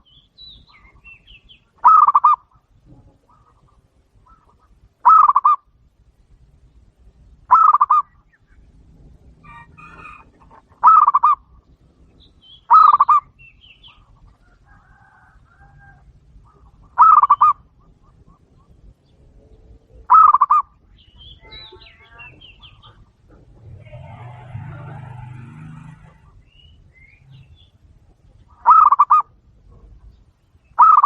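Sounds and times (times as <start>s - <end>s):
small birds chirping: 0.0s - 31.0s
doves cooing: 1.8s - 5.6s, 7.5s - 30.1s, 30.8s - 31.0s.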